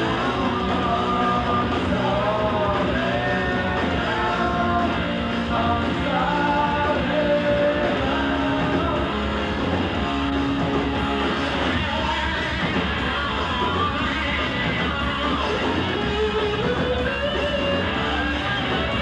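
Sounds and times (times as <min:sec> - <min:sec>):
man singing into microphone: 0:00.0 - 0:09.3, 0:10.9 - 0:19.0
drum kit: 0:00.0 - 0:19.0
electric guitars: 0:00.0 - 0:19.0.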